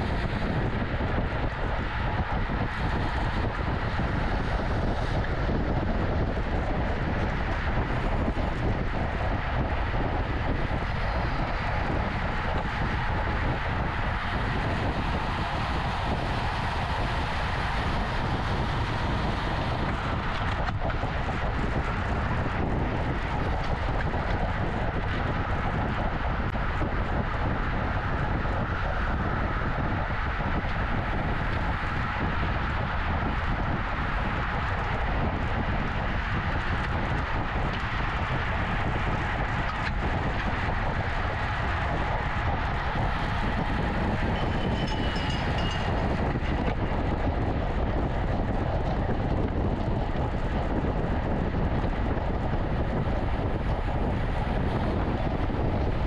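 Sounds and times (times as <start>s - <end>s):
bicycle tyre noise: 0.0s - 56.0s
wind rushing over microphone: 0.0s - 56.0s.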